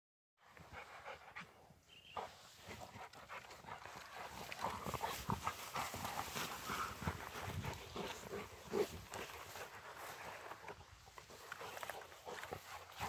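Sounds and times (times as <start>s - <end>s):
dogs panting: 0.4s - 13.0s
grass rustling: 2.2s - 13.0s.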